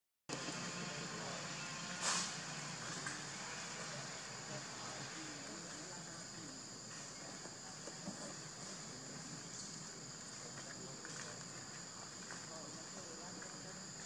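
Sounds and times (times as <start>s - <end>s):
insect chorus drone: 0.3s - 14.0s.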